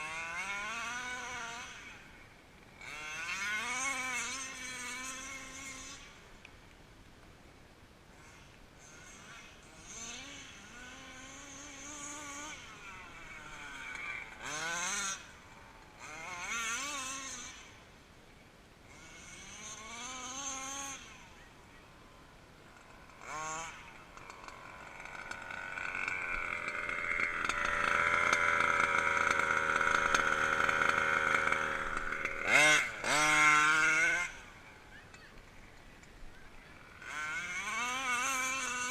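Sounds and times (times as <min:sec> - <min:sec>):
two-stroke engine revving: 0:00.0 - 0:06.4, 0:08.1 - 0:17.8, 0:18.8 - 0:21.4, 0:22.6 - 0:38.9.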